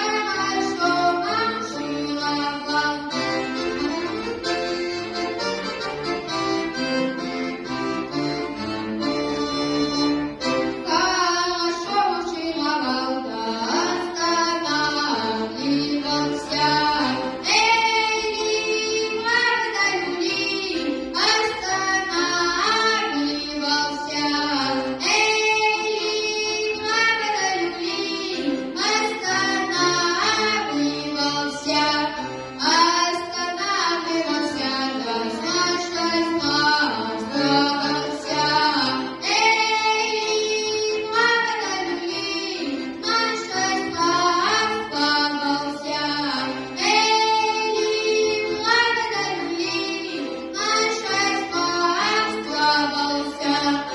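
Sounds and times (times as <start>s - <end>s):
boy singing folk song: 0.0s - 4.9s, 8.0s - 53.9s
instrumental accompaniment: 0.0s - 53.9s.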